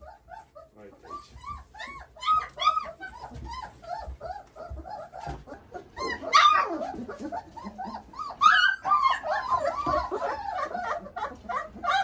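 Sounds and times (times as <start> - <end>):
puppies whimpering and yipping: 0.0 - 12.0
puppy yelps: 0.0 - 12.0.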